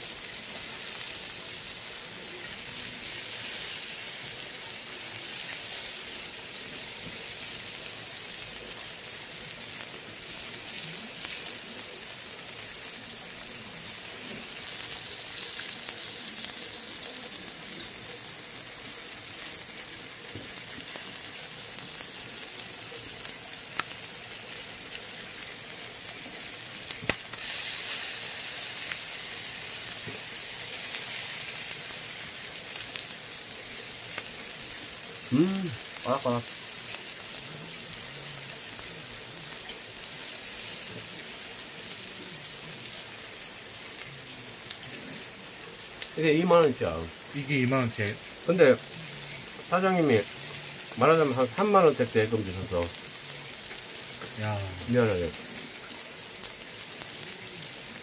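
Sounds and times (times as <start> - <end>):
food sizzling on griddle: 0.0 - 58.0.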